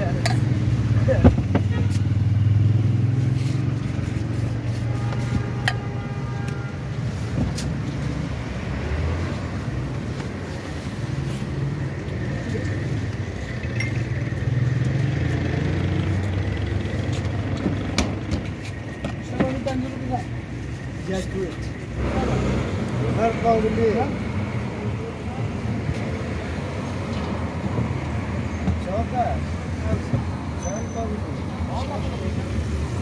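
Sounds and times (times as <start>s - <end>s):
road traffic hum: 0.0s - 33.0s.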